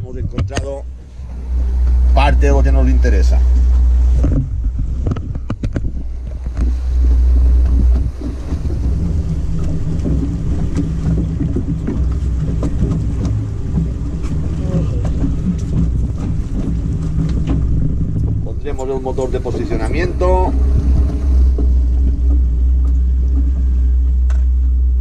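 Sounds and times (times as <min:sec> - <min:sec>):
outboard motor running: 0:00.0 - 0:25.0
wind buffeting microphone: 0:00.0 - 0:25.0.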